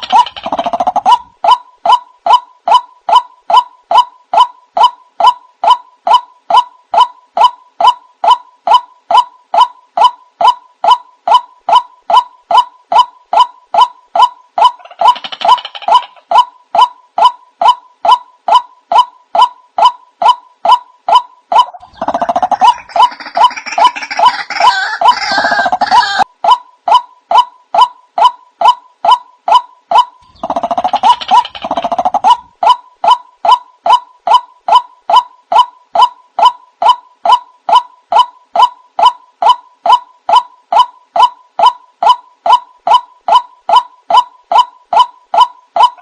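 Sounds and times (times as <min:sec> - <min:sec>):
repeated bird call: 0:00.0 - 0:46.0.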